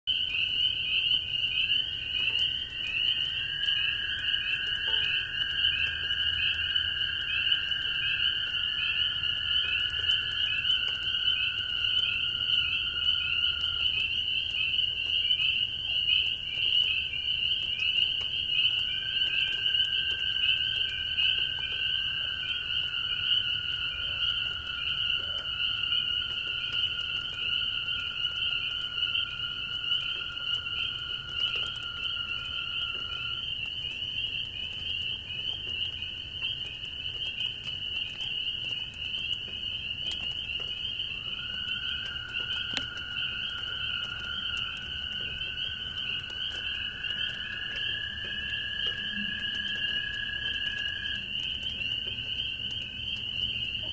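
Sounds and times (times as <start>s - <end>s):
light rain pattering: 0.1s - 53.9s
spring peepers chorus: 0.1s - 53.9s
toads trilling: 0.1s - 53.9s.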